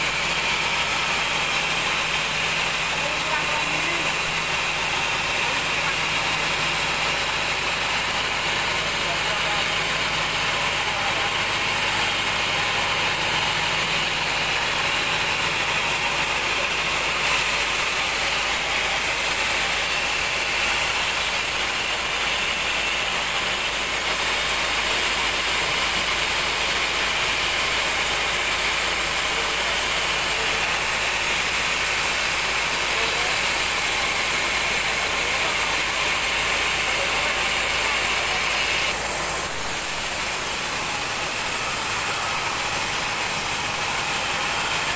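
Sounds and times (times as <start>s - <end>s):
band saw cutting log: 0.0s - 44.9s.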